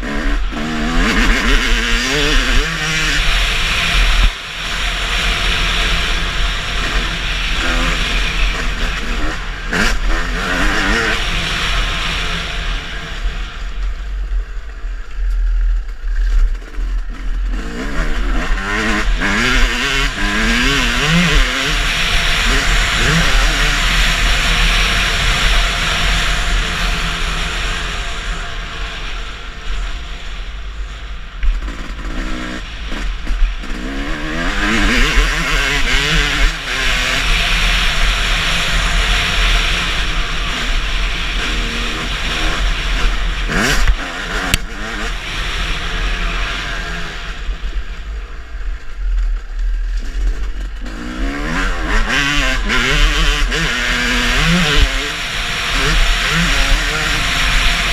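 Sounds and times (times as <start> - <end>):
motorcycle engines revving: 0.0 - 57.9.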